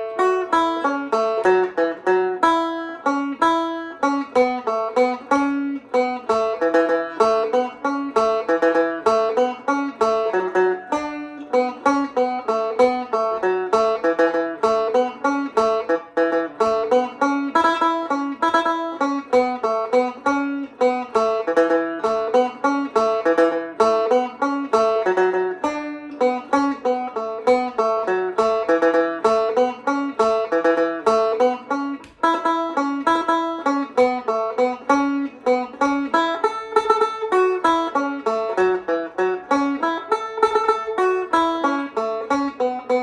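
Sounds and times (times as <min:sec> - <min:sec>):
banjo playing a jig: 0:00.0 - 0:43.0.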